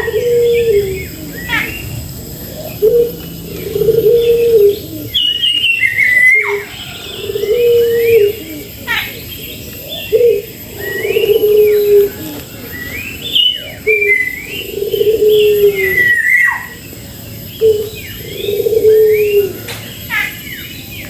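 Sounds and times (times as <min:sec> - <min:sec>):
bird whistles and chirps: 0:00.0 - 0:21.0
dove cooing: 0:00.0 - 0:21.0.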